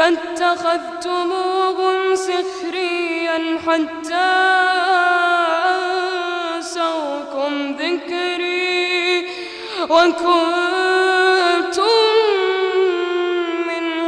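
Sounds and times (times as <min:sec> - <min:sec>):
boy reciting melodically: 0:00.0 - 0:14.0.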